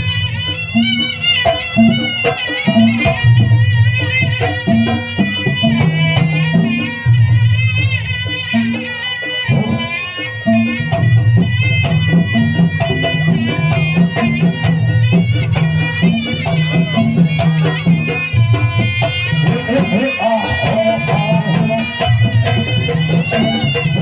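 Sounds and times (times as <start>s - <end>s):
wailing reed-pipe melody: 0.0s - 24.0s.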